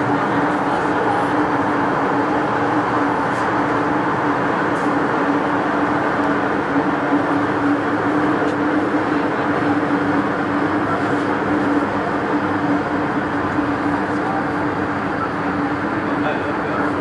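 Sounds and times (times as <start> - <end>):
steady electric hum: 0.0 - 17.0
train wheels rumbling on rail: 0.0 - 17.0.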